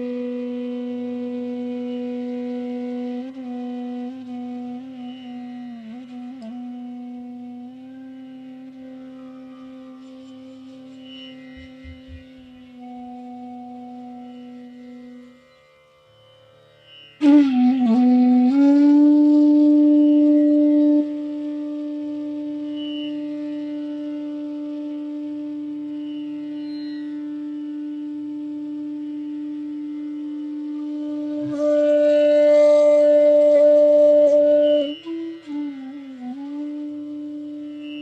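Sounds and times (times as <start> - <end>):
bamboo flute long note: 0.0 - 38.0.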